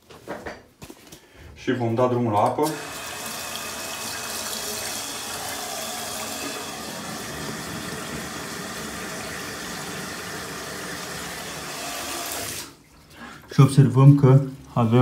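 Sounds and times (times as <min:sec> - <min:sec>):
bath tap running water: 0:02.6 - 0:15.0.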